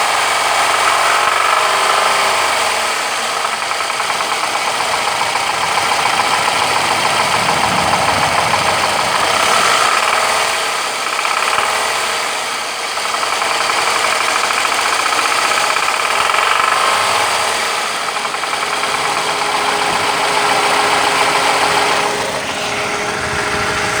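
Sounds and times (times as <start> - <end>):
engine running with rapid knock: 0.0 - 24.0.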